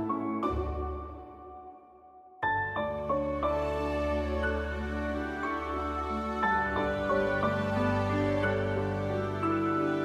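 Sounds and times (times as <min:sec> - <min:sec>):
gentle new-age background music: 0:00.0 - 0:10.0.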